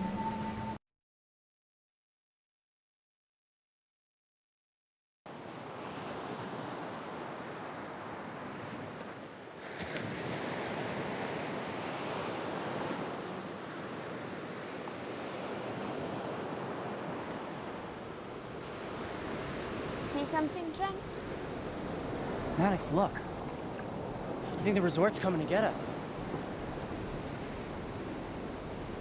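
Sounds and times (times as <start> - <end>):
ocean waves washing onto beach: 5.3 - 29.0.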